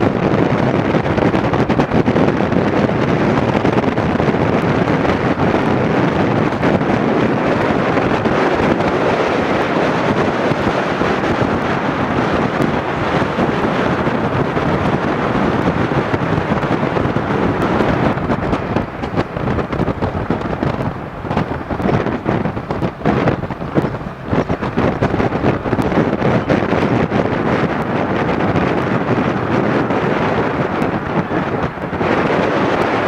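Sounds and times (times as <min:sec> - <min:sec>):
strong wind on microphone: 0:00.0 - 0:33.0.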